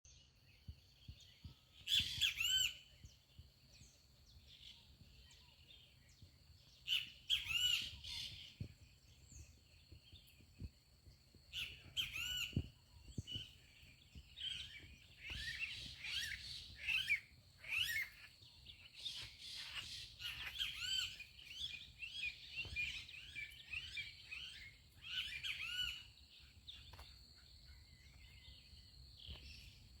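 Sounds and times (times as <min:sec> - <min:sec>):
birds chirping: 0:00.1 - 0:30.0.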